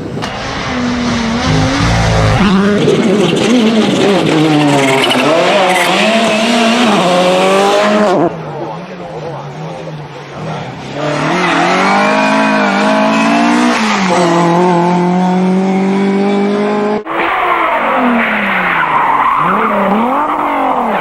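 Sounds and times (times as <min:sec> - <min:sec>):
rally car engine at full throttle: 0:00.0 - 0:21.0
car engine accelerating: 0:00.1 - 0:08.4, 0:09.7 - 0:21.0.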